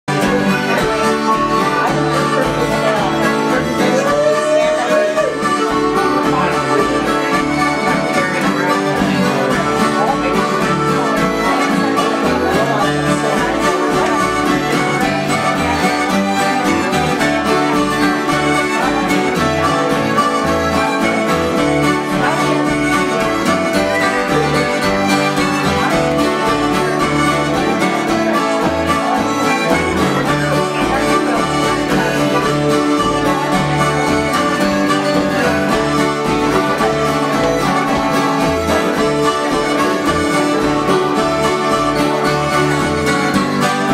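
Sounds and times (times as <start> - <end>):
fiddle: 0.0 - 43.9
strummed acoustic guitars: 0.0 - 43.9.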